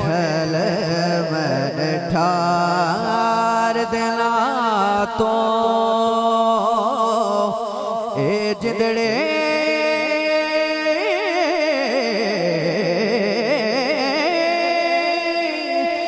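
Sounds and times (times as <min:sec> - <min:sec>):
man singing melismatic passage: 0:00.0 - 0:16.0.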